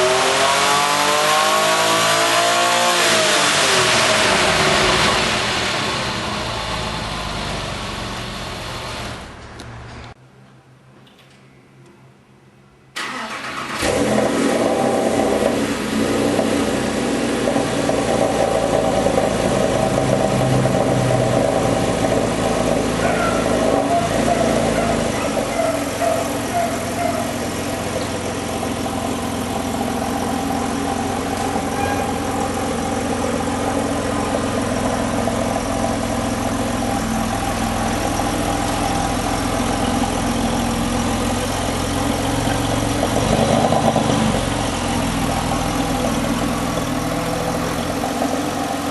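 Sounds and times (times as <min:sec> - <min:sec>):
car engine idling: 0:03.1 - 0:09.6, 0:13.0 - 0:48.9.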